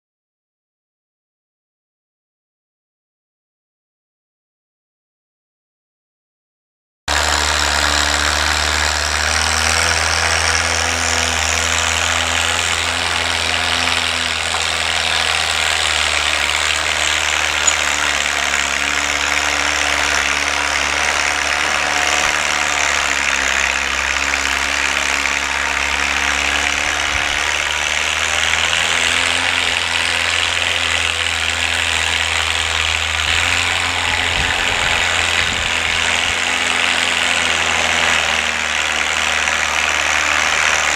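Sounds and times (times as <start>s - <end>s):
tractor engine running steadily: 7.1s - 40.9s.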